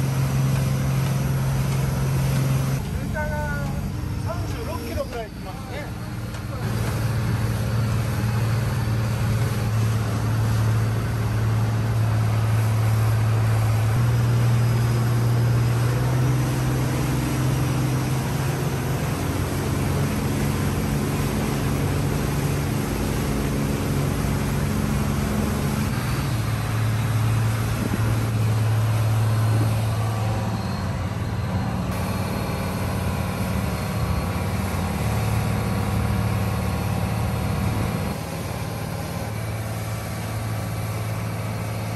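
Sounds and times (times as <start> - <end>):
boat engine drone: 0.0 - 41.9
water rushing along hull: 0.0 - 41.9.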